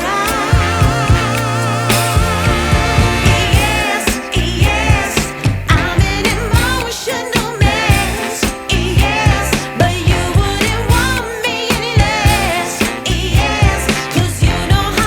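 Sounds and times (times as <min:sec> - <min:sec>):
pop song with singer: 0:00.0 - 0:15.0
steady drum beat: 0:00.0 - 0:15.0.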